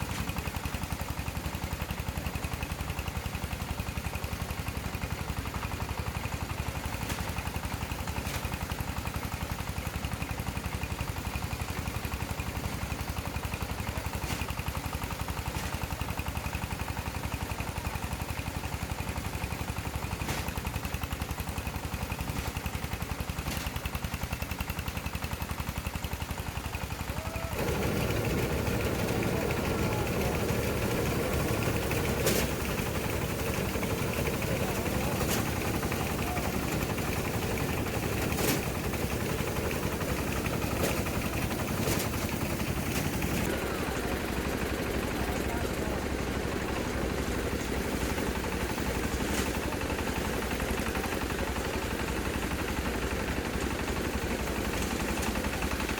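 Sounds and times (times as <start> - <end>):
small engine running: 0.0 - 55.9.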